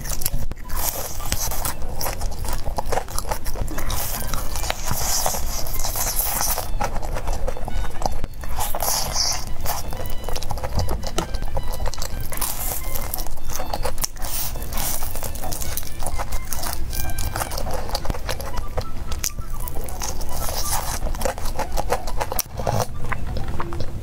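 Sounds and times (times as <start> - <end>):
background music: 0.0 - 24.0
crunching fried chicken: 0.0 - 24.0.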